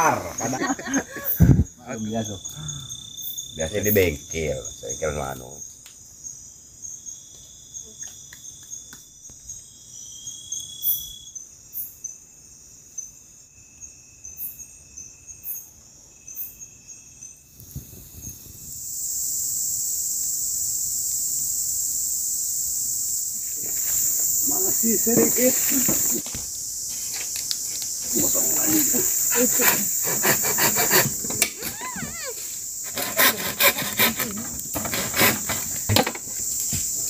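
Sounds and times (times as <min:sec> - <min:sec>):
crickets chirping: 0:00.0 - 0:37.0
high-pitched insect drone: 0:00.0 - 0:37.0.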